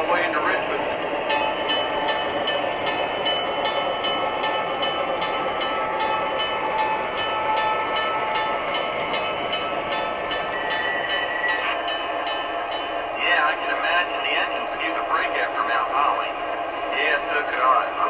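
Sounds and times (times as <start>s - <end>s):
model train running on track: 0.0s - 18.0s.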